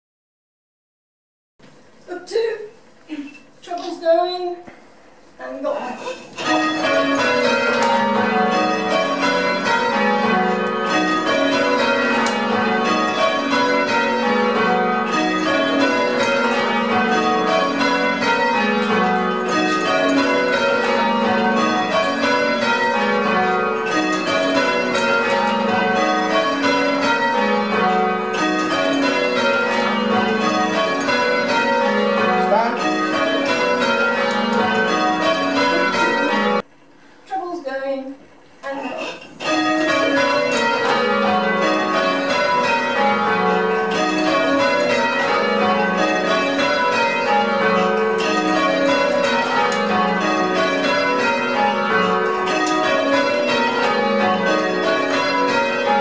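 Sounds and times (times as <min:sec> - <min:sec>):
church bells change ringing: 0:05.4 - 0:36.7, 0:39.4 - 0:56.0.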